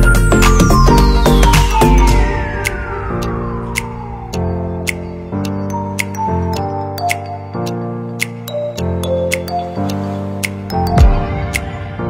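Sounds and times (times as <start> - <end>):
light clicking beat: 0.0 - 12.0
synth chords: 0.0 - 12.0.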